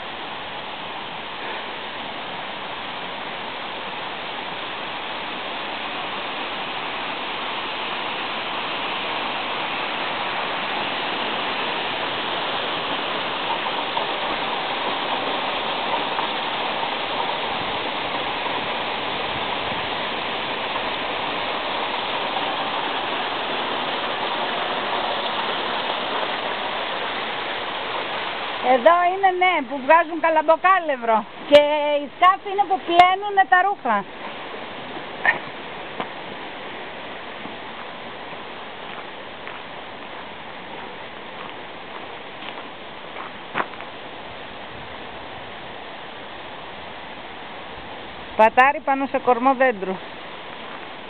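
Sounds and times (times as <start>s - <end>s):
running water rushing: 0.0s - 51.0s.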